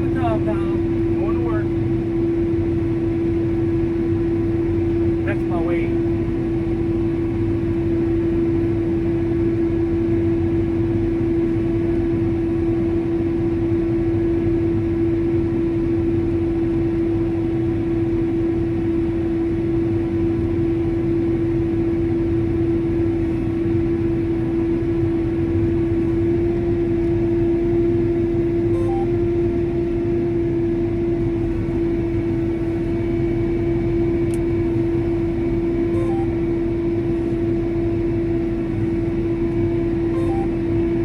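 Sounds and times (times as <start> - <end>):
crop sprayer engine drone: 0.0 - 41.0.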